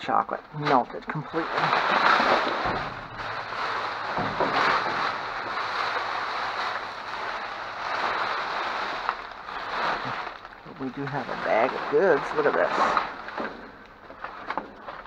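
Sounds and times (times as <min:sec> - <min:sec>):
plastic bags rustling: 0:00.1 - 0:15.0.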